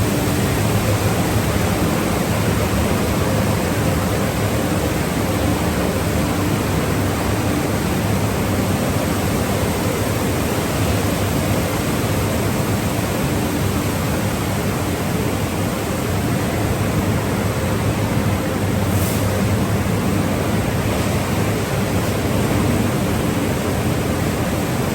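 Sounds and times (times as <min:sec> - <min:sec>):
car wash rushing hiss: 0:00.0 - 0:24.9.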